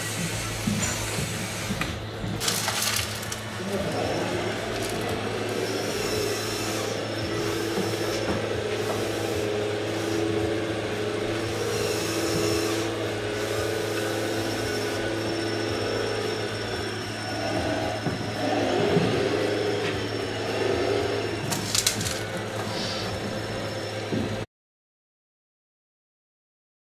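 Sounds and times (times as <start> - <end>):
toy excavator motors whirring: 0.0 - 23.7
steady low hum: 0.0 - 24.5.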